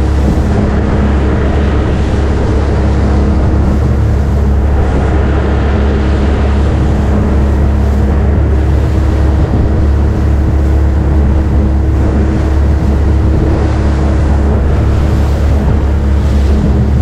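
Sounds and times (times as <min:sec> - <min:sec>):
boat engine droning: 0:00.0 - 0:17.0
water noise: 0:00.0 - 0:17.0
wind: 0:00.0 - 0:17.0.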